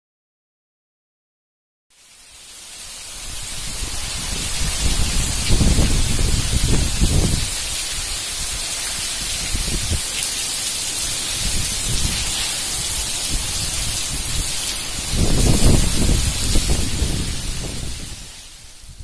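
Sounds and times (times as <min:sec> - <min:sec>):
heavy rain pouring: 0:01.9 - 0:19.0
wind gusts on microphone: 0:03.0 - 0:19.0.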